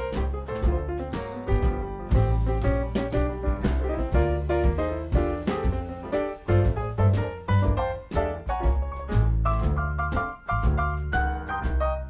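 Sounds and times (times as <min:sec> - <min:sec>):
jazzy piano tune: 0:00.0 - 0:12.0.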